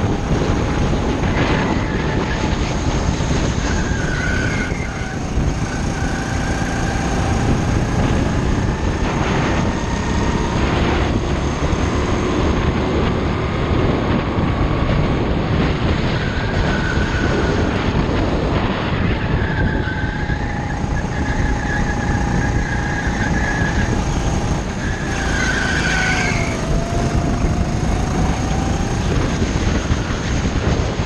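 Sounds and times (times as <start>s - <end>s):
go-kart engine running at speed: 0.0s - 31.0s
rush of noise: 0.0s - 31.0s.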